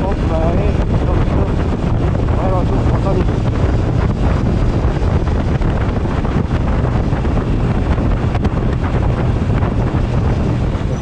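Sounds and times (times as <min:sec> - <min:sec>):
motorcycle running: 0:00.0 - 0:11.0
wind buffeting microphone: 0:00.0 - 0:11.0.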